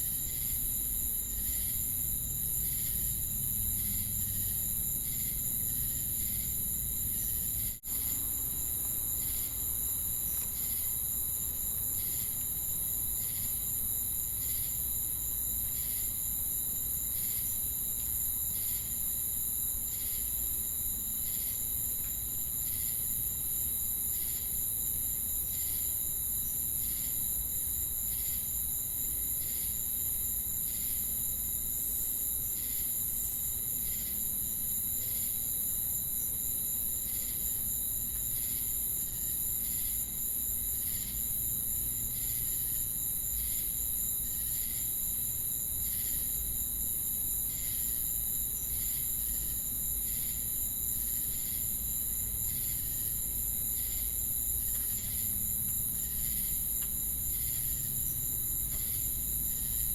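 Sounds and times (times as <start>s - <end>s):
crickets and cicadas trilling: 0.0s - 59.9s.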